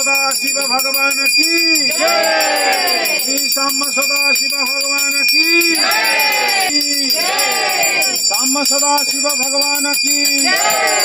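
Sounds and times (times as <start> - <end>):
hand bell ringing: 0.0 - 11.0.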